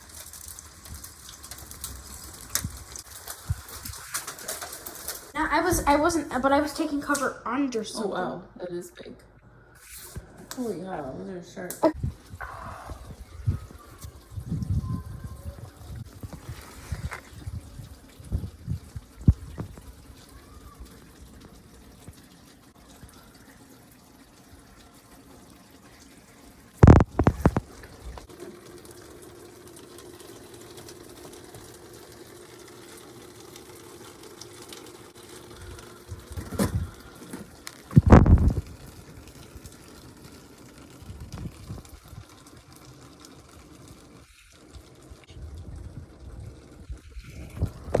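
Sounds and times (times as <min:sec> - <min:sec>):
rainwater trickling and splashing: 0:00.0 - 0:07.3, 0:11.9 - 0:48.0.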